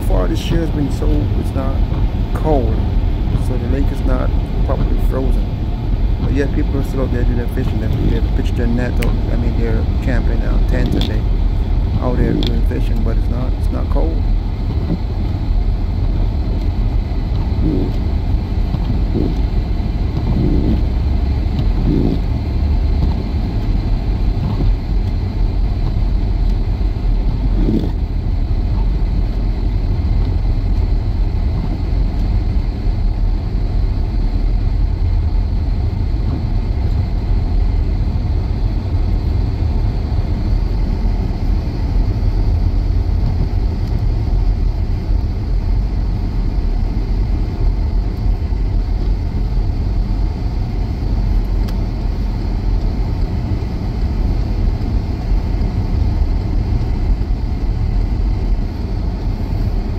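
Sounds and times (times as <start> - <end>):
low rumble of engine and tyres: 0.0 - 59.9.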